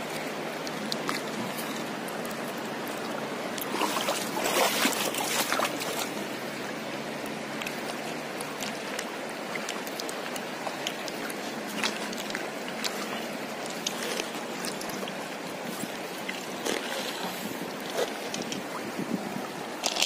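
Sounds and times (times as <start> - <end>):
river water running over stones: 0.0 - 20.0.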